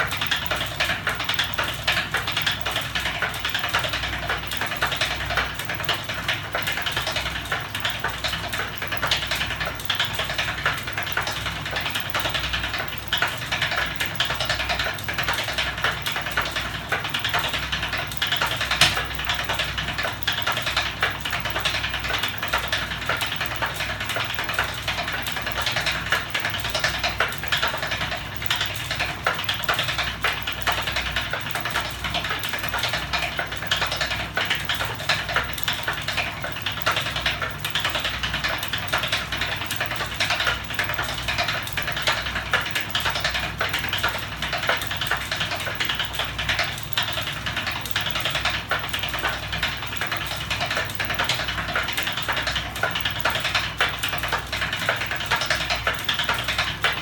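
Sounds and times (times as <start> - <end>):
rattle of rapid ratchet clicks: 0.0 - 57.0.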